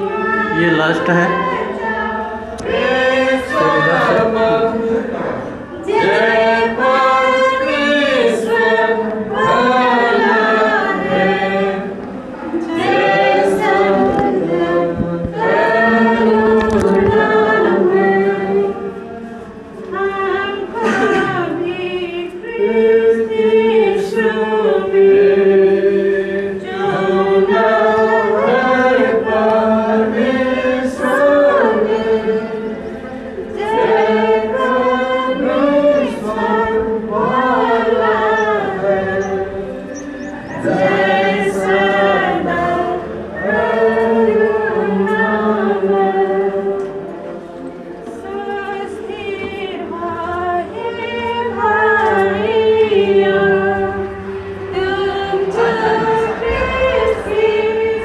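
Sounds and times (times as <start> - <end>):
group singing a hymn: 0.0 - 58.0.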